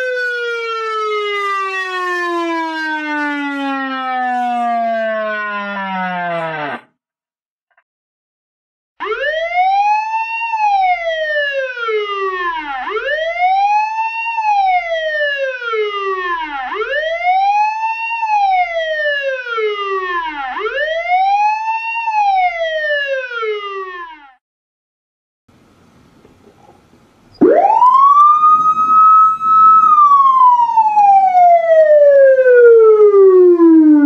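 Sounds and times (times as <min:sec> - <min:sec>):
police siren wailing: 0:00.0 - 0:06.9, 0:09.0 - 0:24.4, 0:27.4 - 0:34.0.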